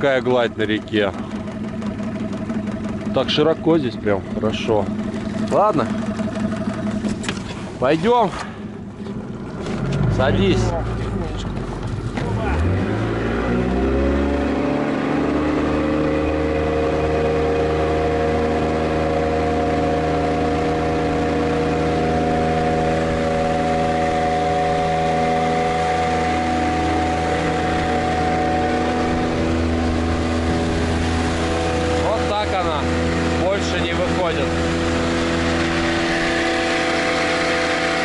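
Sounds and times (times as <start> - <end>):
motorboat engine running: 0.0 - 38.0.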